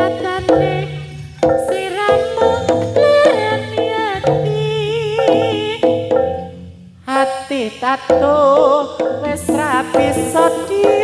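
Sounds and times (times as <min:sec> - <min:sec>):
ornamented melody with percussion: 0:00.0 - 0:11.0.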